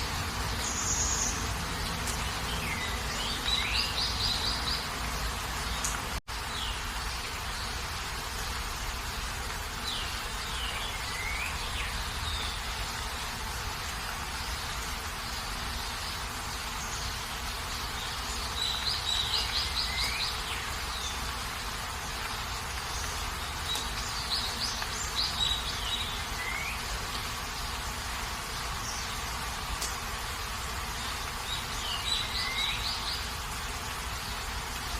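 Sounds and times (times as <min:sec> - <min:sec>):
rain hiss: 0:00.0 - 0:34.9.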